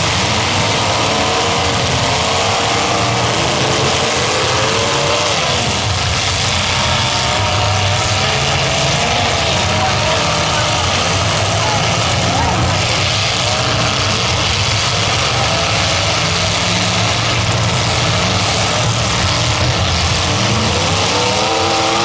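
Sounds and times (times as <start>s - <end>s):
arena noise: 0.0s - 22.0s
car engines revving: 0.0s - 22.0s.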